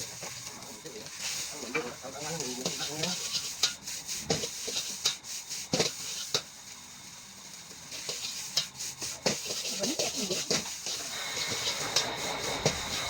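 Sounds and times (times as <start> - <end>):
metal spatula scraping in a wok: 0.0 - 13.0
rice sizzling: 0.0 - 13.0.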